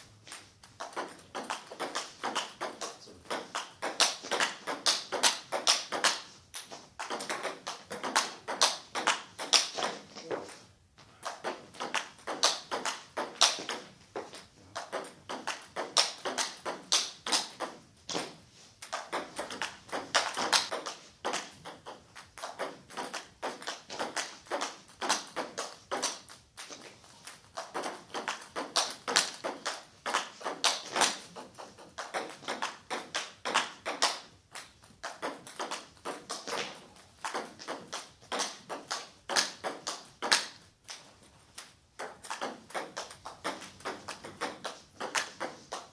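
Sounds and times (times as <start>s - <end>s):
table tennis ball clicking: 0.3s - 10.1s, 11.2s - 45.9s.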